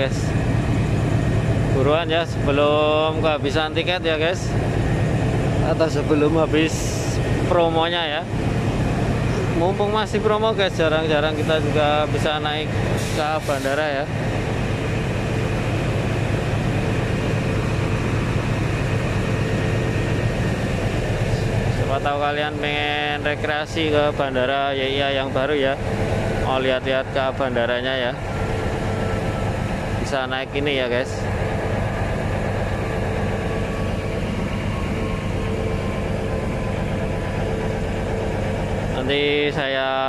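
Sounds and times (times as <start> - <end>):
low mechanical drone with whine: 0.0 - 40.0
train engine idling hum: 0.0 - 40.0.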